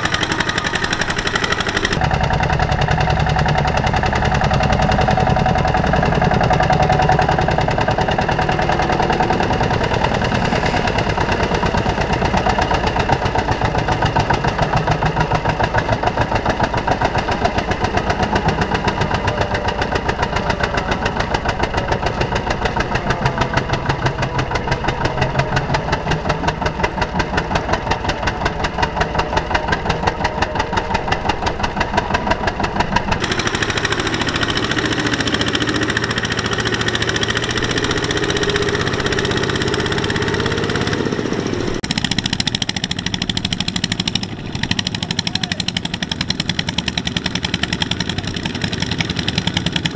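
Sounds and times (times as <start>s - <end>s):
diesel engine chugging: 0.0s - 49.9s.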